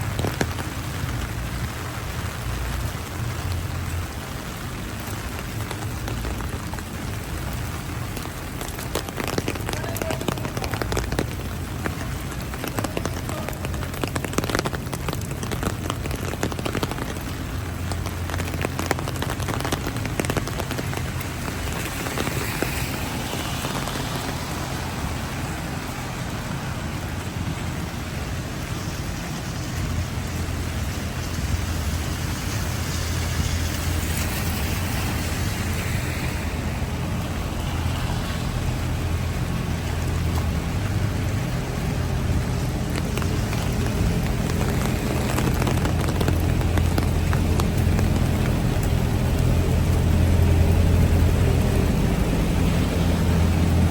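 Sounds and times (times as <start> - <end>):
heavy rain falling: 0.0 - 53.9
low rumble: 0.0 - 53.9
sharp rain drop ticks: 0.0 - 53.9.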